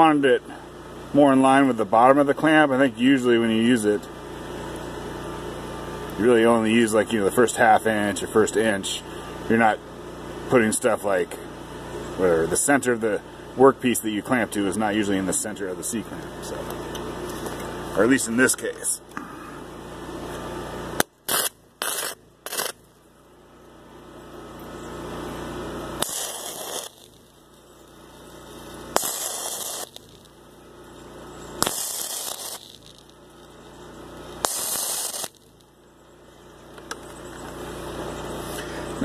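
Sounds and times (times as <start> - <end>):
arc welder crackling and hissing: 0.0 - 39.0.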